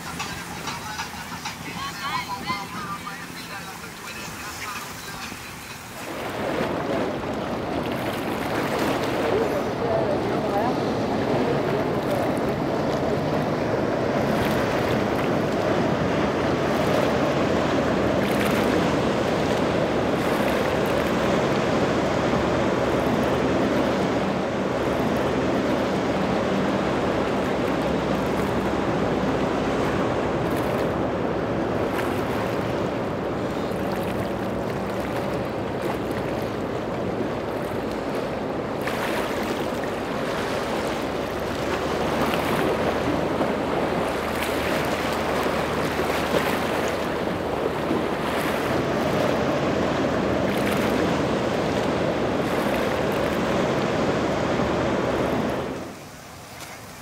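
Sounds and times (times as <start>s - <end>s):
boat engines running: 0.0s - 57.0s
ocean waves and surf: 0.0s - 57.0s
wind on microphone: 5.8s - 56.0s.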